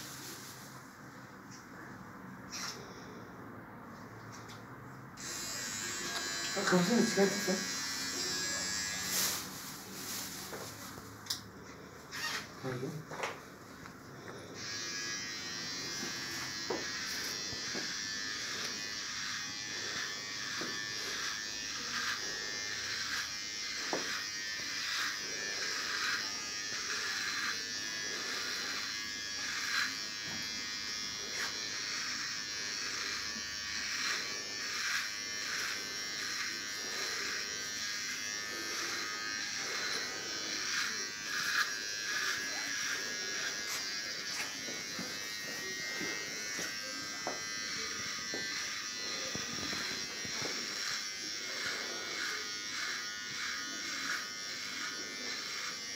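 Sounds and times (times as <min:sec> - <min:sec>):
scratchy shaving strokes: 0:05.2 - 0:11.2, 0:12.0 - 0:12.9, 0:13.7 - 0:55.9
electric shaver buzzing: 0:05.2 - 0:11.4, 0:12.0 - 0:55.9.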